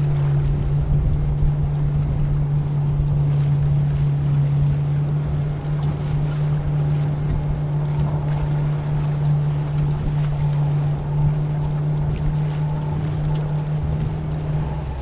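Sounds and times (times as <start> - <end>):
boat engine running: 0.0 - 15.0
water noise: 0.0 - 15.0
wind on microphone: 0.0 - 15.0.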